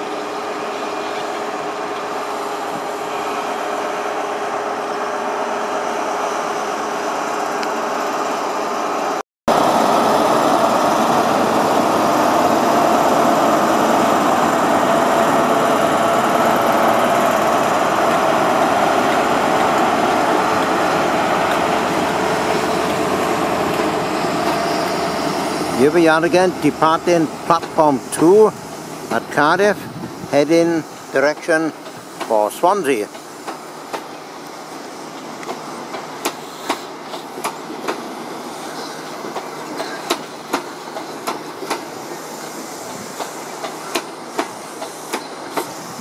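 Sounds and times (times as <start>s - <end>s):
diesel locomotive engine running: 0.0s - 46.0s.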